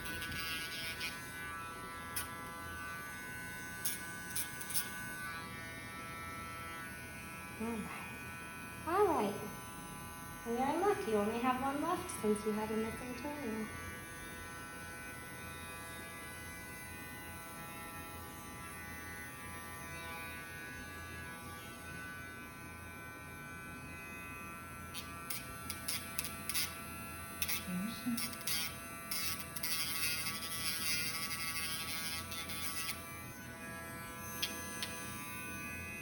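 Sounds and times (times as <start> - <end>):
electric nail grinder buzzing: 0.0 - 36.0.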